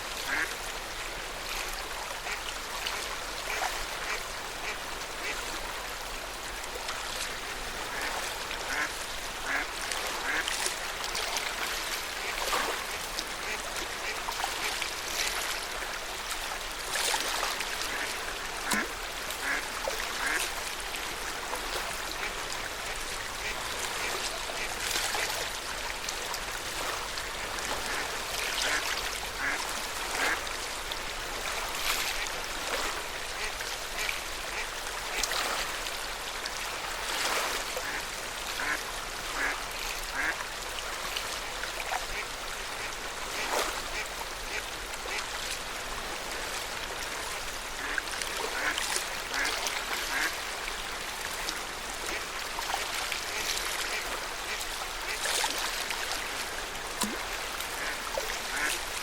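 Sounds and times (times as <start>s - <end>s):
small waves lapping at shore: 0.0s - 59.0s.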